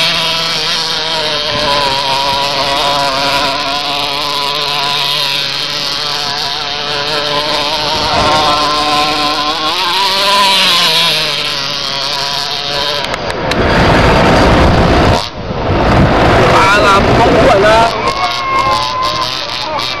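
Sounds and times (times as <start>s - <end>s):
model truck engine running: 0.0s - 20.0s.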